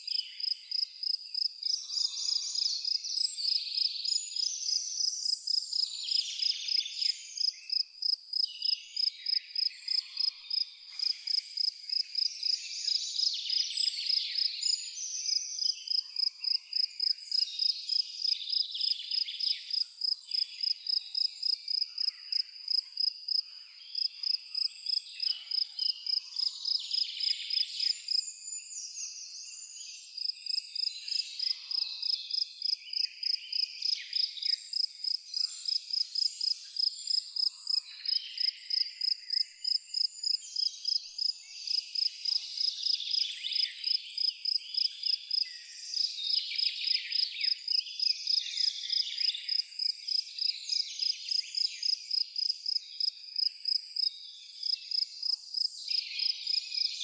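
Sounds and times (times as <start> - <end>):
insect chirps and trills: 0.0 - 57.0.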